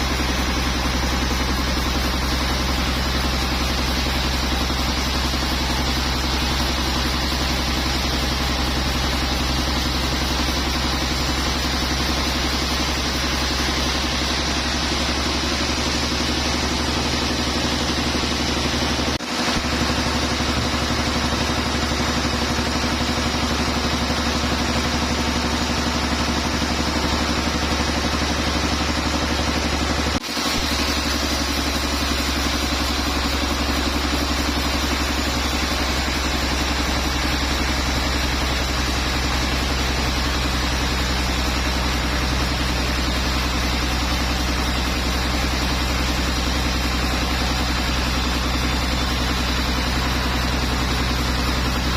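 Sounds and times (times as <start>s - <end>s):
sawmill machinery droning: 0.0s - 51.9s.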